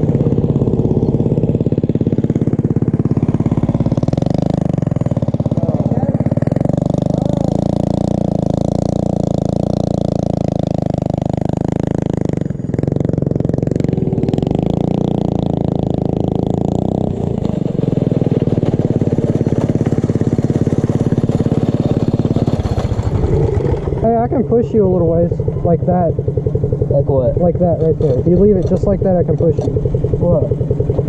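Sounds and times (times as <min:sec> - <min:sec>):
small single-cylinder engine running: 0:00.0 - 0:31.0.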